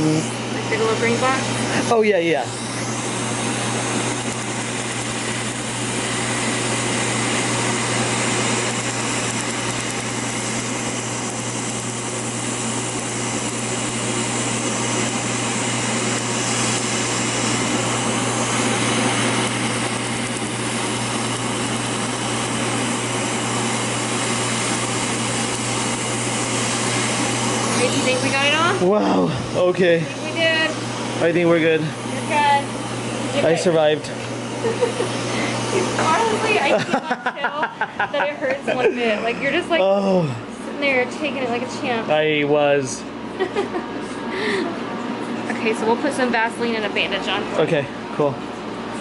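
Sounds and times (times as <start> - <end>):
machine whirring over low hum: 0.0 - 49.0.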